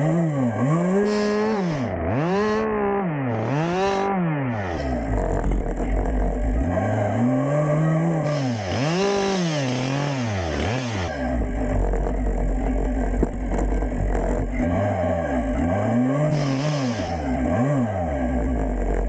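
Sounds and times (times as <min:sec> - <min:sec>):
chainsaw idling and revving: 0:00.0 - 0:19.0.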